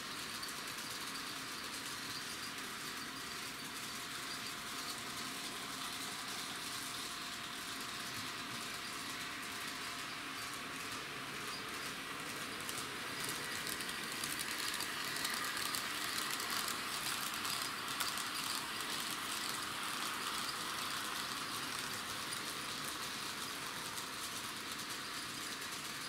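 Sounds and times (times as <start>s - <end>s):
model trains running on track: 0.0s - 26.0s.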